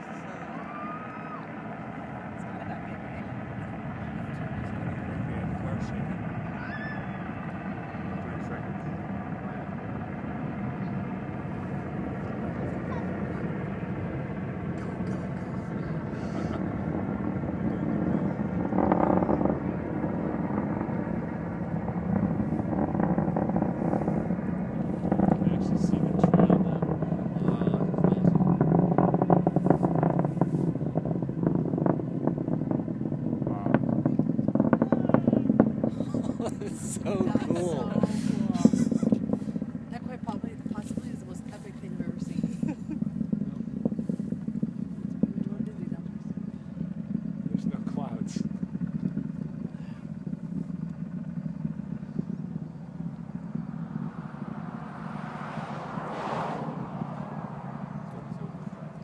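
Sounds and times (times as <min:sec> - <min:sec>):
distant rocket roar with crackles: 0:00.0 - 0:59.0.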